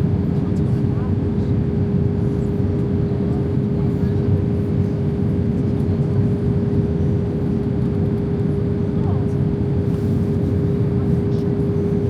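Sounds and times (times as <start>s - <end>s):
aircraft cabin rumble: 0.0s - 12.0s
constant mid-pitched hum: 0.0s - 12.0s.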